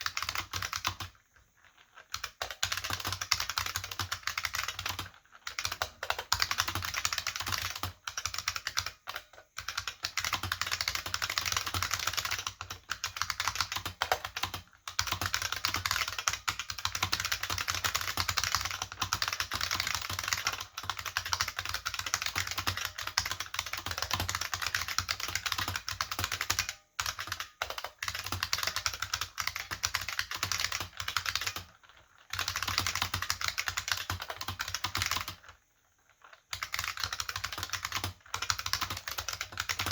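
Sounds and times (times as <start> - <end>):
fast keyboard typing: 0.0 - 35.6, 36.5 - 39.9.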